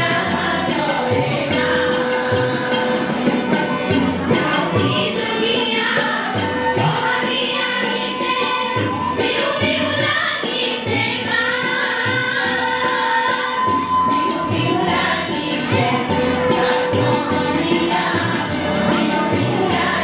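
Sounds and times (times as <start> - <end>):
harmonium held notes: 0.0 - 20.0
tabla drum rhythm: 0.0 - 20.0
women's choir singing: 0.0 - 20.0.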